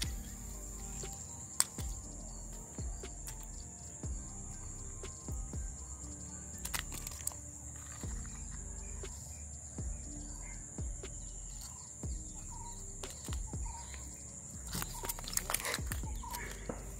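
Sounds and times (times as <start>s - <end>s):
faint bird chirps: 0.0s - 16.9s
high-pitched insect drone: 0.0s - 16.9s.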